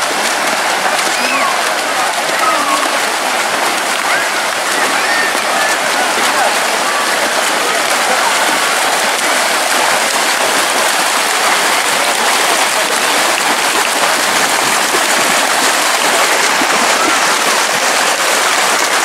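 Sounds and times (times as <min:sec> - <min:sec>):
swimmers splashing: 0:00.0 - 0:19.0.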